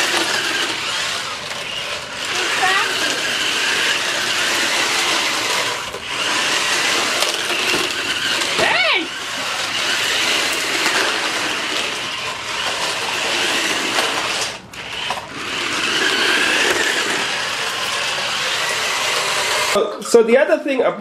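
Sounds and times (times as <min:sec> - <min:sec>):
toy car motors whirring: 0:00.0 - 0:19.8.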